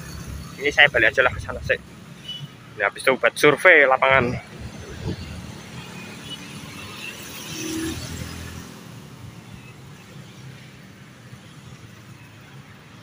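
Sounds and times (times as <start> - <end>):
motorcycles passing: 0.0 - 13.0.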